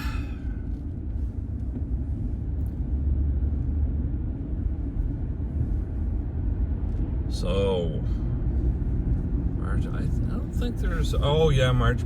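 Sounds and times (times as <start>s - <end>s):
truck cabin road rumble: 0.0s - 12.0s.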